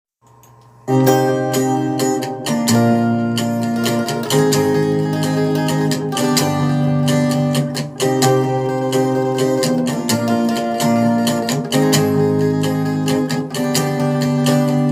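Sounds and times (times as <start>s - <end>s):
acoustic guitar strumming chords: 0.8s - 14.9s.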